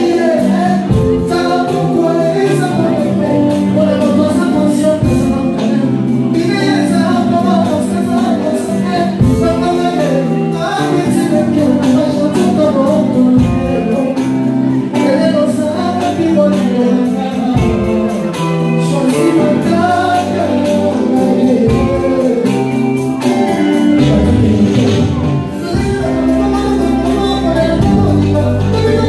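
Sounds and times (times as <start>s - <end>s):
men singing together: 0.0s - 29.0s
rumba band playing: 0.0s - 29.0s.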